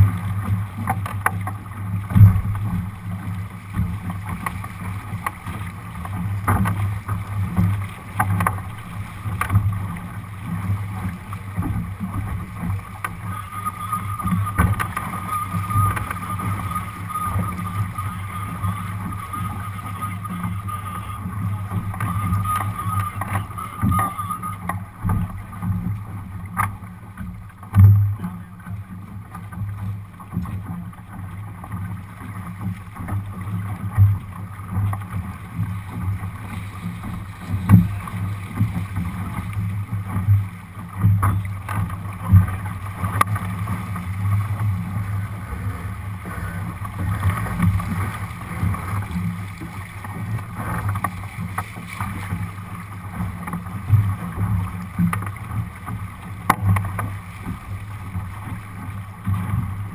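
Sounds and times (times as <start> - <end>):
water rushing along a hull: 0.0 - 59.9.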